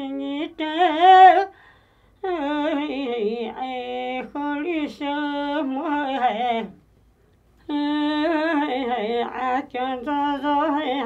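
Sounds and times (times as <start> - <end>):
woman singing folk song: 0.0 - 1.6, 2.2 - 6.8, 7.6 - 11.0.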